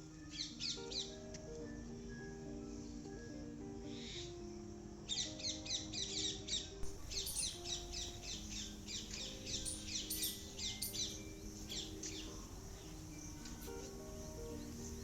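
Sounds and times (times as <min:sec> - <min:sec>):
small birds chirping: 0:00.0 - 0:15.0
soft background music: 0:00.0 - 0:15.0.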